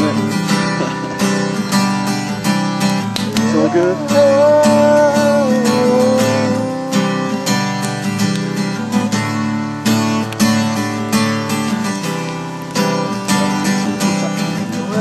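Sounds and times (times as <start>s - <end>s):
held melody line: 0.0s - 15.0s
strummed acoustic guitar: 0.0s - 15.0s.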